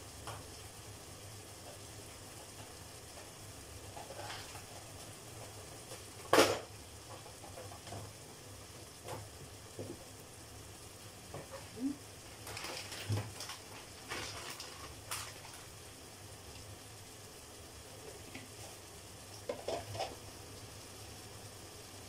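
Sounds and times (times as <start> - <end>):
food frying in a pot: 0.0 - 22.0.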